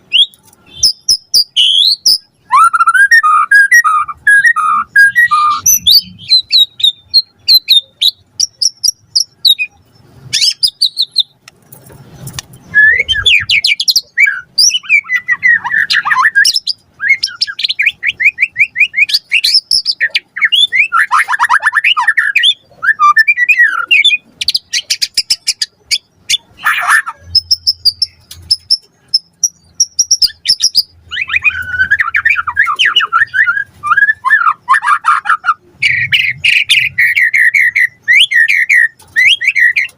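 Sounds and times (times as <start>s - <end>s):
songbird singing trills and whistles: 0.0s - 11.4s, 12.6s - 39.9s.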